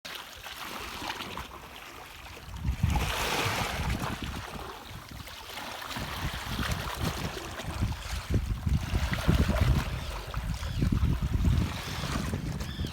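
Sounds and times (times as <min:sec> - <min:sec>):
water splashing around a kayak: 0:00.0 - 0:12.9
wind buffeting microphone: 0:02.4 - 0:12.9.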